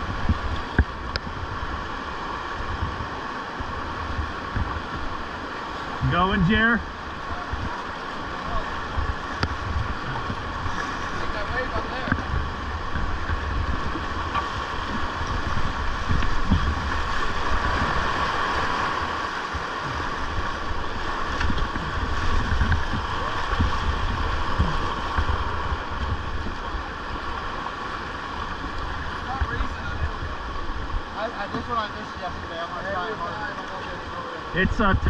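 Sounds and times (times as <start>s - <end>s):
wind buffeting microphone: 0.0s - 6.3s, 6.9s - 31.2s, 34.6s - 35.0s
whitewater rushing: 0.0s - 35.0s.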